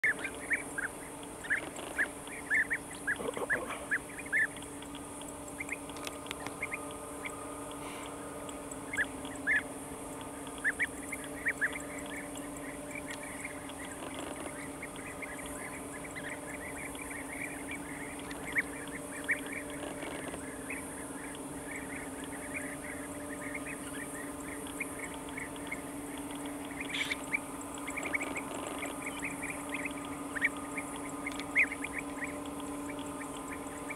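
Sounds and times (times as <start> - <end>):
birds calling sharply: 0.0 - 33.9
steady low hum: 0.0 - 33.9.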